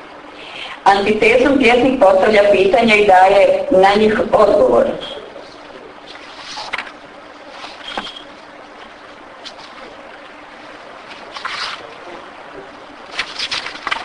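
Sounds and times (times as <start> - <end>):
room hiss: 0.0 - 14.0.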